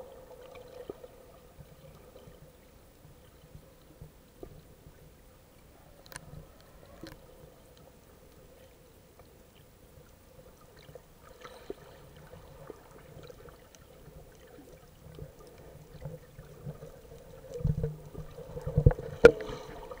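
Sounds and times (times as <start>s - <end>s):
underwater water movement: 0.0s - 20.0s.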